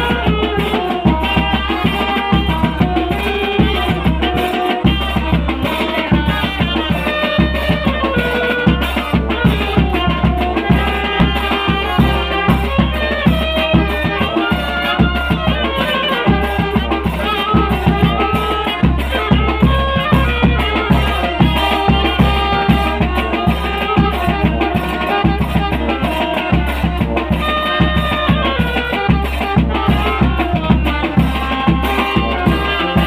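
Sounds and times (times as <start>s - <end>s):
steady drum beat: 0.0s - 33.0s
wind instruments melody: 0.0s - 33.0s.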